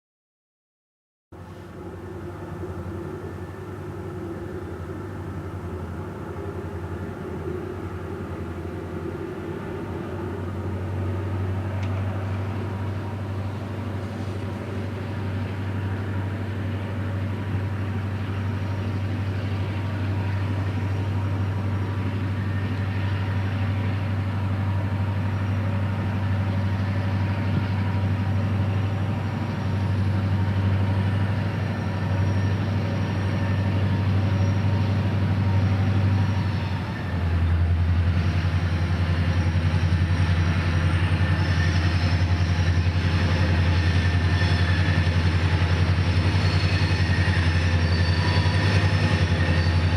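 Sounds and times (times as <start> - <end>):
diesel locomotive engine drone: 1.3 - 49.9.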